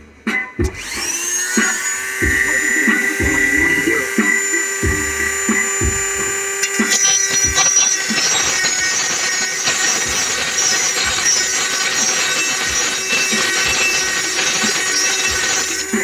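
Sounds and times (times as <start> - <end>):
bit grinding metal blade: 0.8 - 16.0
rotary tool whining: 0.8 - 16.0.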